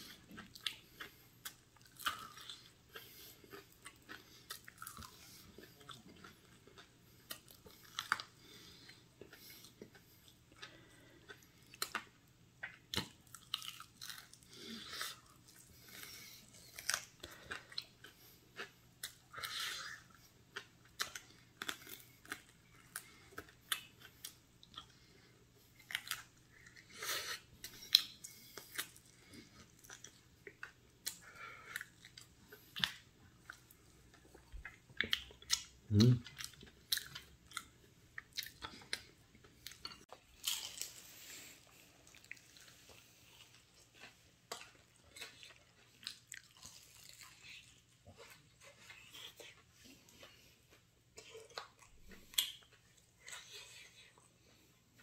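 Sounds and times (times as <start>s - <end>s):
chewing crunchy fried chicken: 0.0s - 55.0s.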